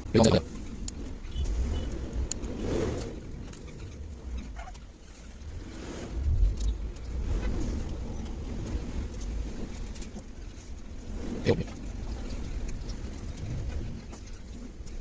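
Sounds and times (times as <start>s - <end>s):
low uneven rumbling: 0.0s - 15.0s.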